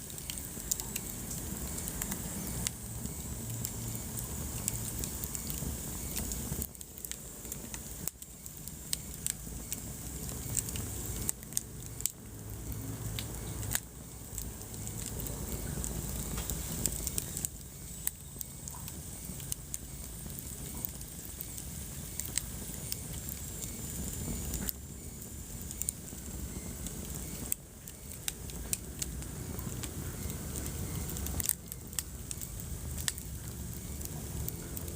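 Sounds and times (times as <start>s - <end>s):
fire crackling and popping: 0.0s - 34.9s
fire flames rumbling: 0.0s - 34.9s.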